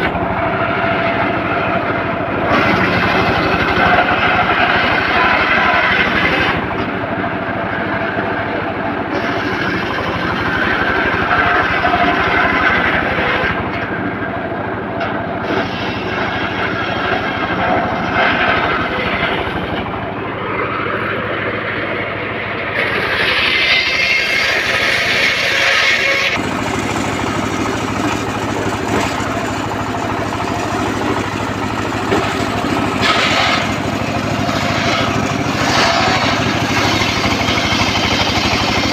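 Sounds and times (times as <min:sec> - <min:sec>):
circular saw cutting wood: 0:00.0 - 0:38.9.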